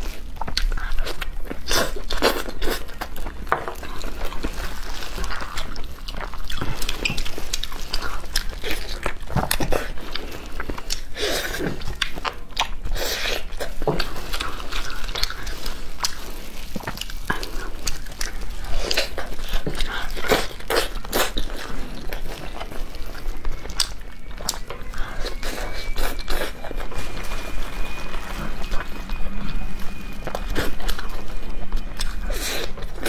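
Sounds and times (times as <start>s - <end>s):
crackly bites and chewing: 0.0s - 33.0s.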